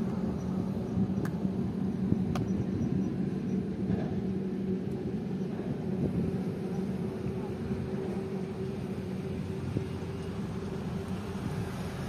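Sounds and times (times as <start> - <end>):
low hum: 0.0 - 12.0
vehicle rumble: 0.0 - 12.0.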